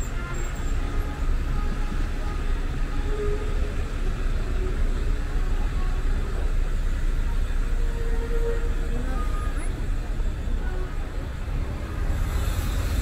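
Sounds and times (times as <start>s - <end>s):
cars rumbling on city road: 0.0s - 13.0s.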